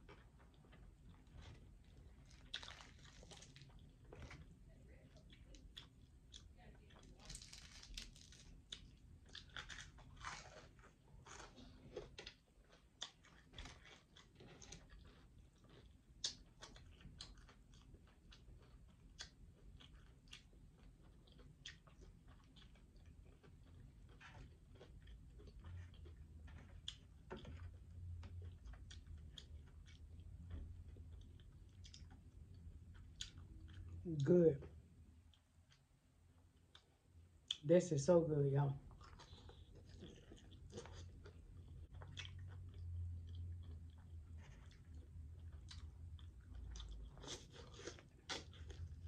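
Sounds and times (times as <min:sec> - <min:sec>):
chewing crispy chicken: 0:00.0 - 0:35.8, 0:36.5 - 0:37.6, 0:38.8 - 0:49.0.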